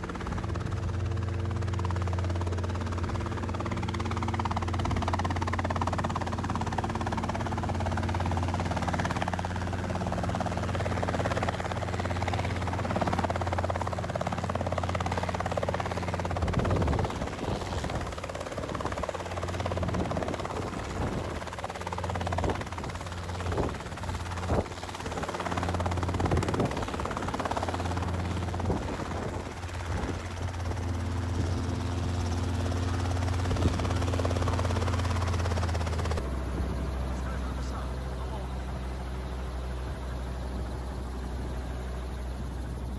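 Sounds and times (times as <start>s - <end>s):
helicopter rotor and engine drone: 0.0s - 42.9s.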